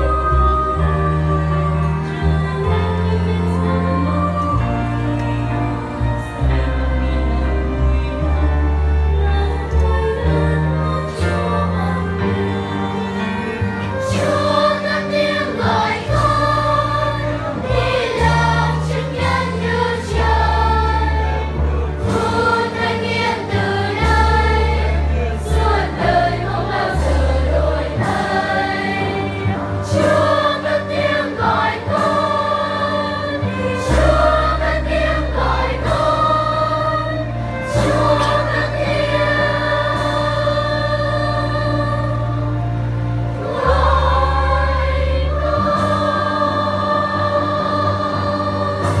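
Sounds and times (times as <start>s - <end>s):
children's choir singing a hymn: 0.0s - 49.0s.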